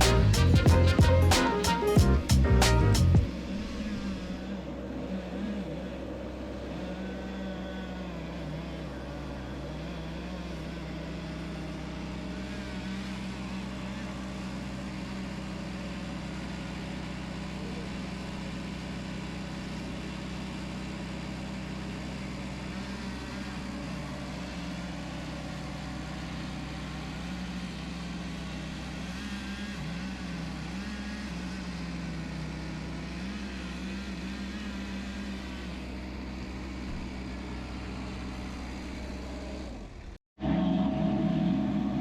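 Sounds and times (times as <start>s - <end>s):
machine engine running: 0.0s - 42.0s.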